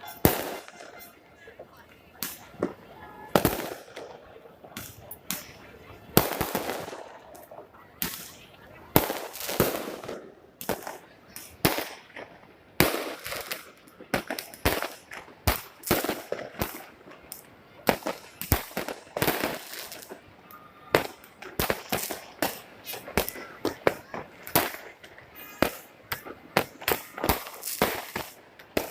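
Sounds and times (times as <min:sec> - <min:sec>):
fireworks bangs echoing: 0:00.0 - 0:20.3, 0:20.9 - 0:28.9.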